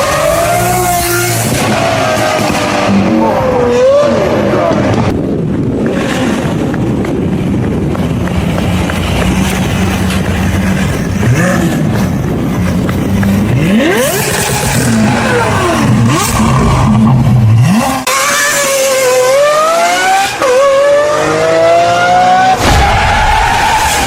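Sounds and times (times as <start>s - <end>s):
car engine revving: 0.0s - 5.1s, 5.7s - 22.7s.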